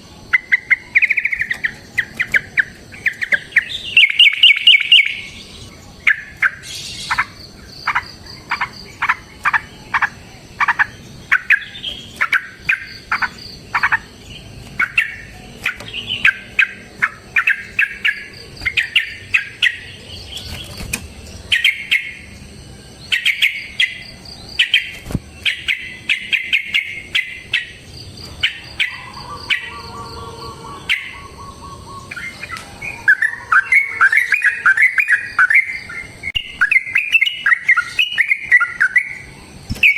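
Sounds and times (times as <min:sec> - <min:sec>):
bulbul singing rapid chirps: 0:00.0 - 0:39.9.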